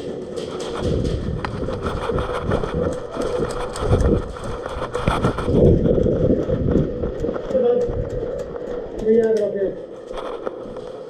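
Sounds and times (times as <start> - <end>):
gear rattling and clicking: 0.0 - 11.0
running footsteps: 0.0 - 11.0.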